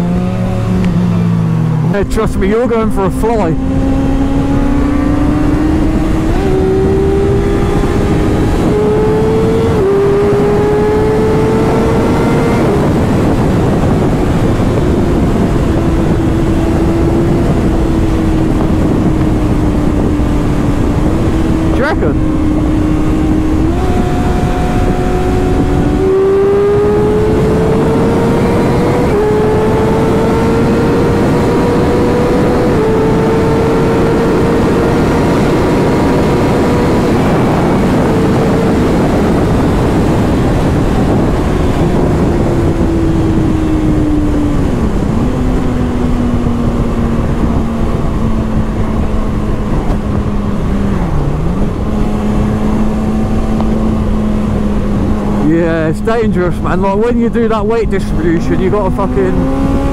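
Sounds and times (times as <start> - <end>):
wind noise: 0.0 - 59.9
motorcycle engine pulling hard: 2.8 - 59.9.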